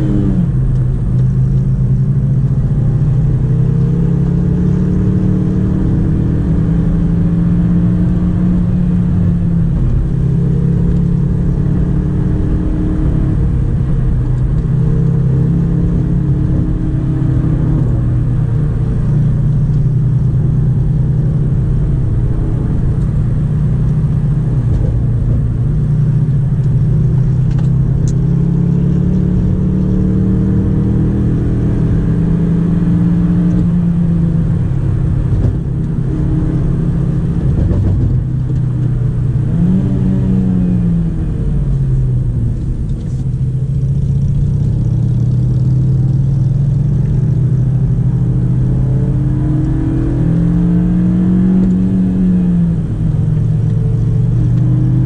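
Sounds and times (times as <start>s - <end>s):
car engine revving: 0.0s - 55.0s
road and tyre rumble: 0.0s - 55.0s.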